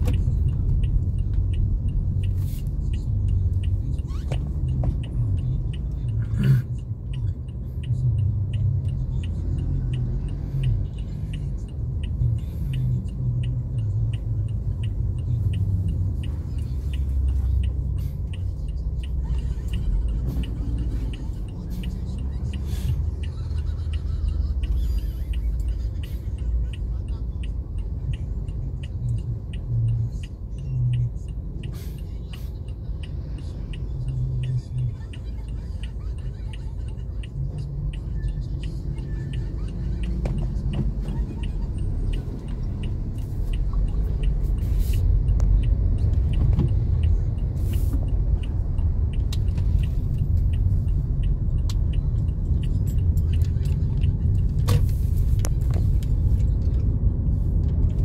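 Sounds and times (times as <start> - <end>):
car engine and tyre rumble: 0.0 - 58.0
light regular ticking: 0.0 - 58.0.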